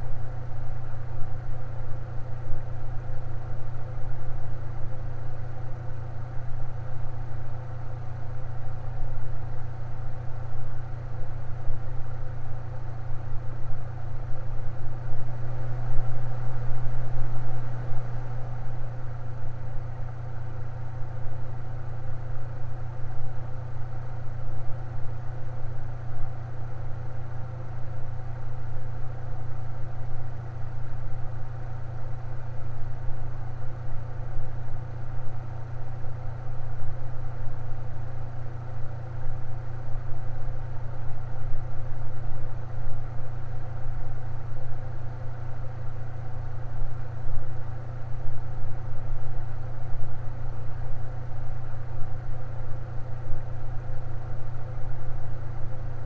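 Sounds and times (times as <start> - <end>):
electric fan running: 0.0 - 56.0.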